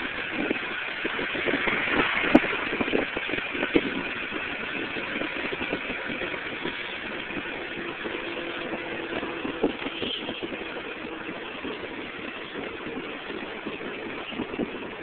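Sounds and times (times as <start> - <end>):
bike rattles and knocks: 0.0 - 15.0
wind and tyre noise: 0.0 - 15.0.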